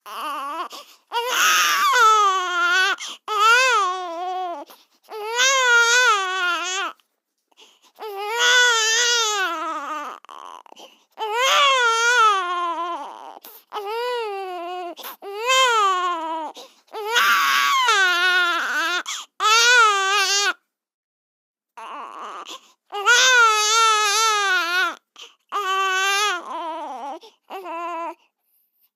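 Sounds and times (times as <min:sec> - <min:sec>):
baby crying: 0:00.0 - 0:07.0, 0:08.0 - 0:20.6, 0:21.8 - 0:28.2.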